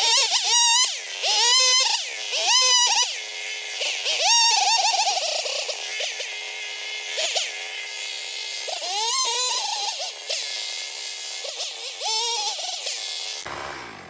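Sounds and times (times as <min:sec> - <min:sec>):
chainsaw cutting and revving: 0:00.0 - 0:14.0.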